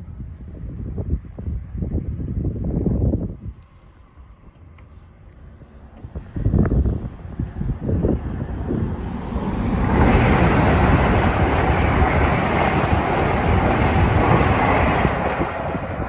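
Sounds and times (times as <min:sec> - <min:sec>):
high-speed train passing: 0:00.0 - 0:16.0
wind buffeting microphone: 0:00.0 - 0:16.0.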